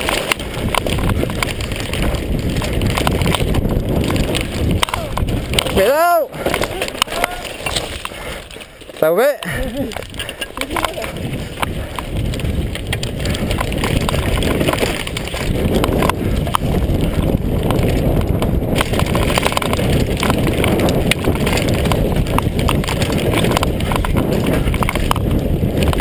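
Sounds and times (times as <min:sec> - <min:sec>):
bike rattling over rocks: 0:00.0 - 0:26.0
bike tyres rumbling over stones: 0:00.0 - 0:26.0.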